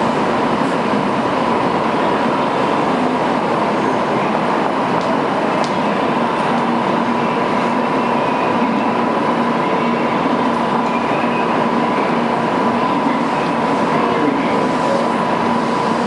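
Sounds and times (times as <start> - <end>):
train rushing noise: 0.0 - 16.0.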